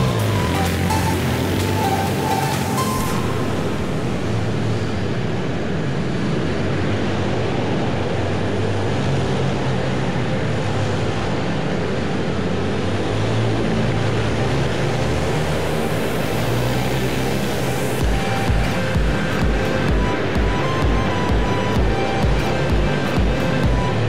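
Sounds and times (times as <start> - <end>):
small motorbike engines racing: 0.0 - 24.0.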